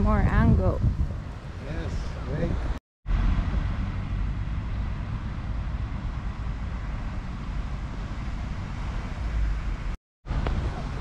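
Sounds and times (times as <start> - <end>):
city ambience low rumble: 0.0 - 11.0.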